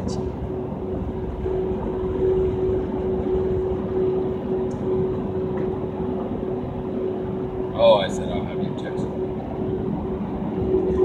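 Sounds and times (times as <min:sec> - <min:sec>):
constant low hum: 0:00.0 - 0:11.0
truck road and engine noise: 0:00.0 - 0:11.0.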